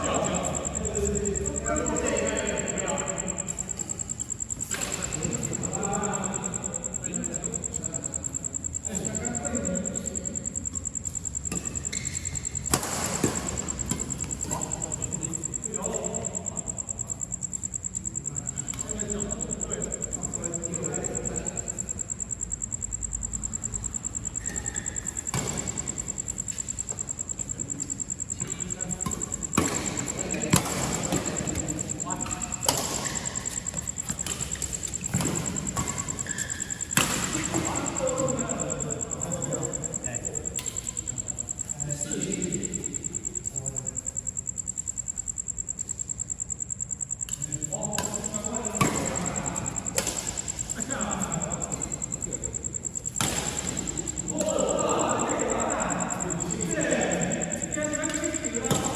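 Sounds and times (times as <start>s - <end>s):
insects chirring: 0.0s - 58.9s
voices: 0.0s - 58.9s.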